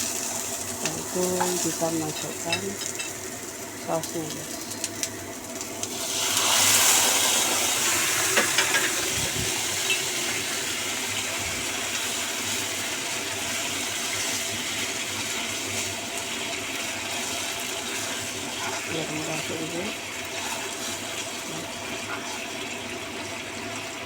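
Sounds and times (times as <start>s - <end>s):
sauce sizzling in a pan: 0.0s - 24.0s.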